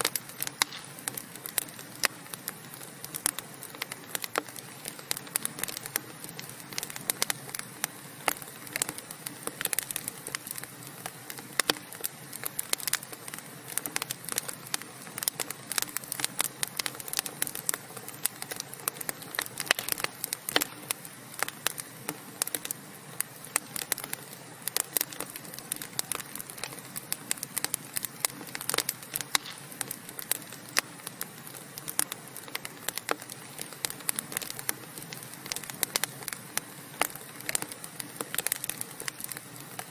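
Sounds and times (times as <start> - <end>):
burning logs crackling and popping: 0.0 - 39.9
hiss of flames: 0.0 - 39.9.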